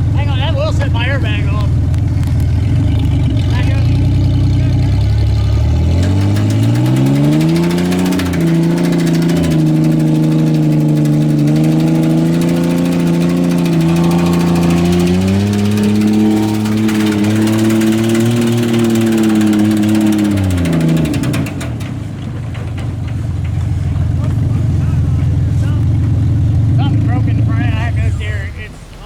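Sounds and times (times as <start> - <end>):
pickup engine revving: 0.0 - 29.0.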